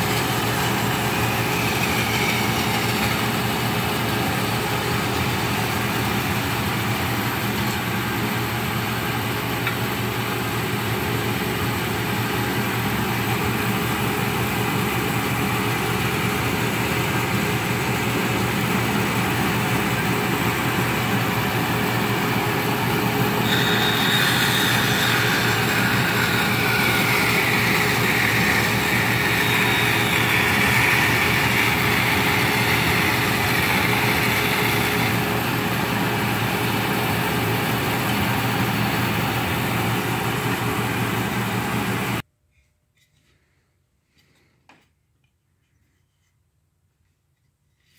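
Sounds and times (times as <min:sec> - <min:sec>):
saw blade whining through wood: 0:00.0 - 0:09.5, 0:12.4 - 0:41.4
band saw motor running: 0:00.0 - 0:42.2.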